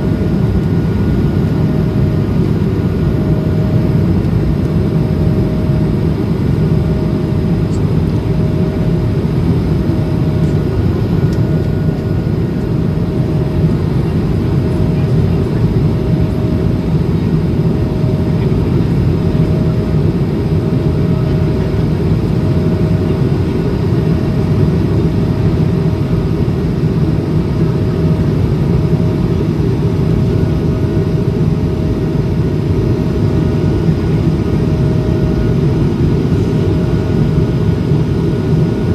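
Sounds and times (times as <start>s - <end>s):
low rumble of jet engines: 0.0s - 38.9s.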